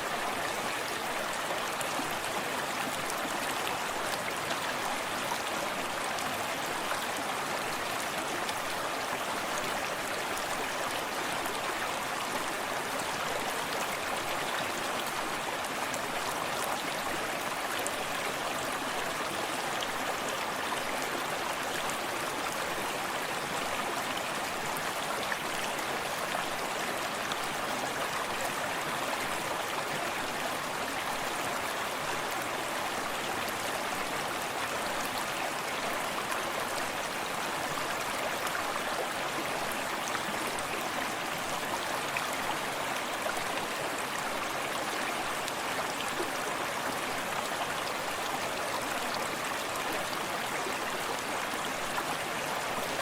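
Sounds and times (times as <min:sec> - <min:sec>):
forest stream flowing: 0:00.0 - 0:53.0.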